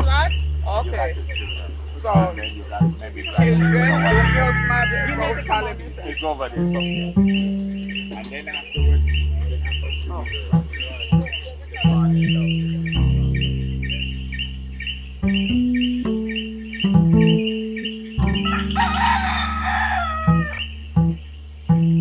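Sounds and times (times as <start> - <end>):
deep sustained bass tones: 0.0 - 22.0
rapid insect-like chirping: 0.0 - 22.0.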